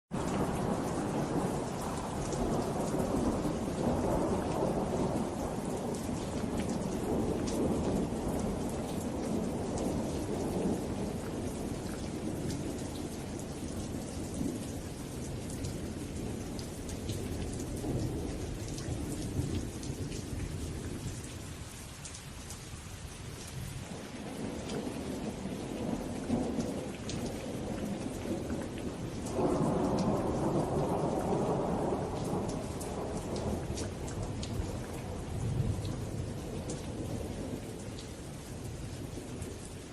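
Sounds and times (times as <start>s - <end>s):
rolling thunder rumble: 0.1s - 21.2s, 23.8s - 37.8s
steady rain patter: 0.1s - 39.9s.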